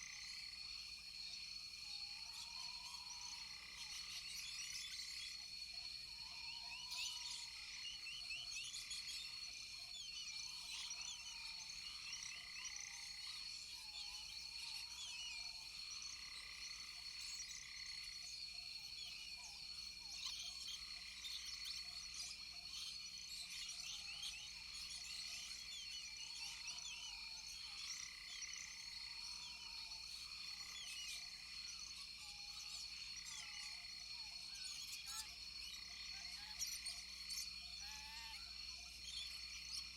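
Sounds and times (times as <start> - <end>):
frogs chirping and croaking: 0.0 - 39.9.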